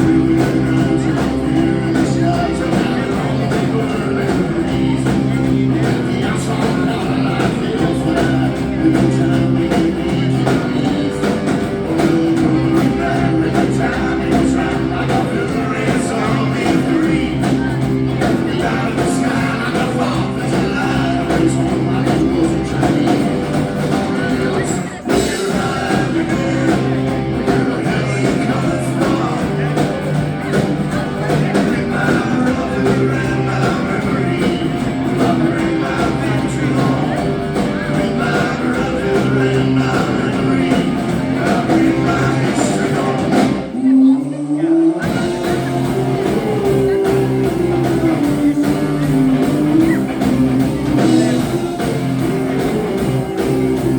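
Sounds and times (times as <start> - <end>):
steady bass line: 0.0 - 43.9, 45.0 - 53.9
electric guitar: 0.0 - 53.9
live rock band playing: 0.0 - 53.9.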